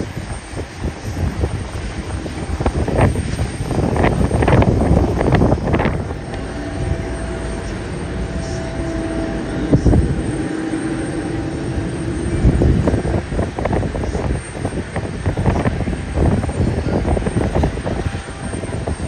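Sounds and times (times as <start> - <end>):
jet engine drone: 0.0 - 19.0
wind buffeting microphone: 0.0 - 19.0.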